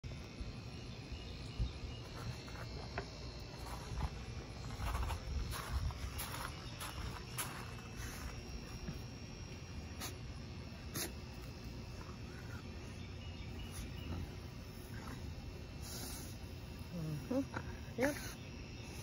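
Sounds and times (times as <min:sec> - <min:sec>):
high chirring of insects: 0:00.0 - 0:19.0.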